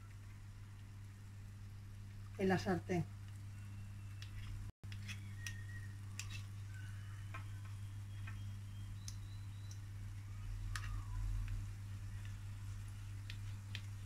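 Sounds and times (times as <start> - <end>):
batter frying in oil: 0.0 - 14.0
low steady hum: 0.0 - 14.0.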